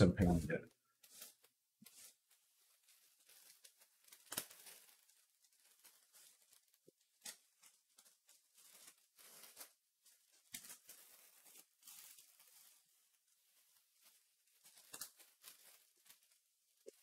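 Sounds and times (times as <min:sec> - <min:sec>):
trading cards rustling: 0:00.0 - 0:17.0.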